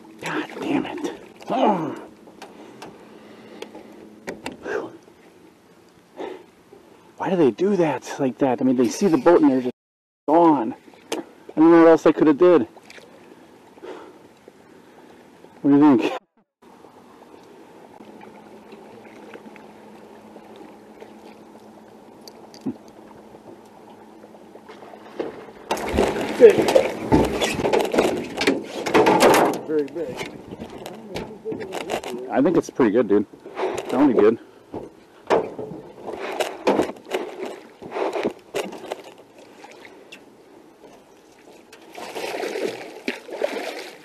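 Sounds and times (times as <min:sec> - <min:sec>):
fishing boat engine hum: 0:00.0 - 0:09.7, 0:10.4 - 0:16.0, 0:16.6 - 0:29.0, 0:29.7 - 0:44.0.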